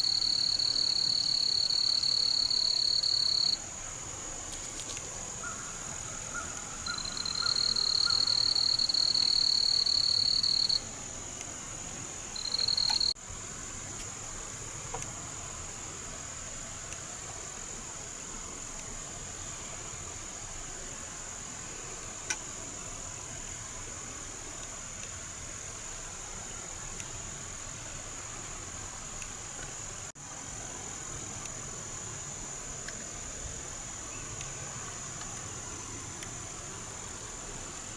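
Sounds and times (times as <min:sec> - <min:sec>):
insects and frogs calling: 0:00.0 - 0:15.8, 0:16.5 - 0:37.9
high insect trill: 0:00.0 - 0:37.9.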